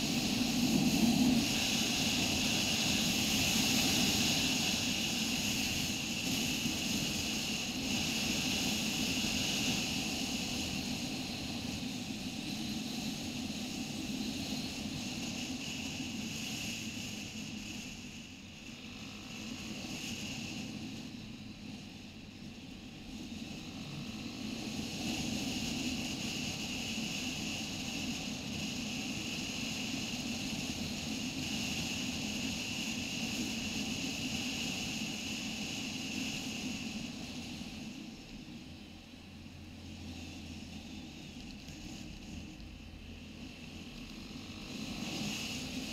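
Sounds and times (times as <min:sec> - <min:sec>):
road and wind noise: 0:00.0 - 0:45.9.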